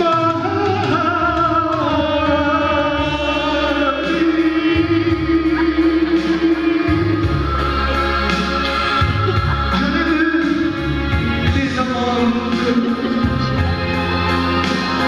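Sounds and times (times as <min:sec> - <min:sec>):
man singing into microphone: 0:00.0 - 0:08.5, 0:09.3 - 0:15.0
backing music: 0:00.0 - 0:15.0.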